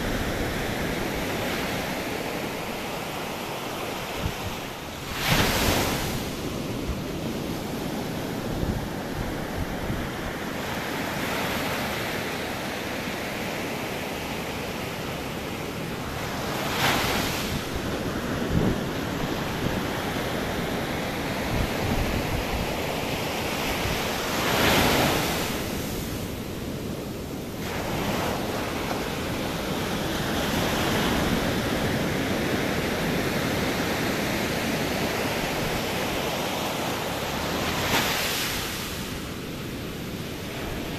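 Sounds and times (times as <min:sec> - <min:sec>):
surf washing onto beach: 0:00.0 - 0:40.9
wind buffeting microphone: 0:03.8 - 0:11.4, 0:15.6 - 0:40.9.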